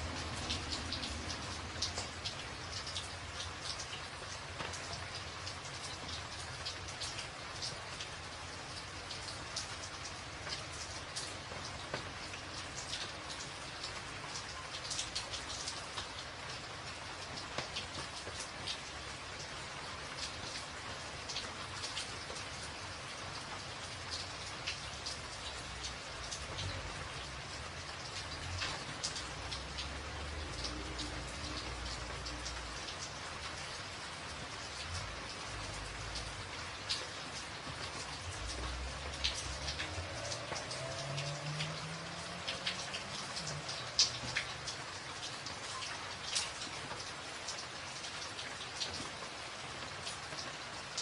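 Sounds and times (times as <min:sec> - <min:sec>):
rain drumming on a tin roof: 0:00.0 - 0:51.0.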